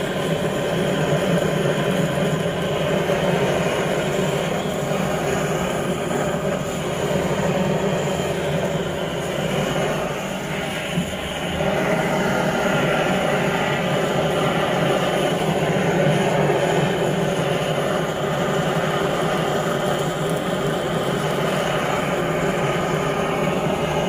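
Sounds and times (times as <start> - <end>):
blowtorch flame burning: 0.0 - 24.0.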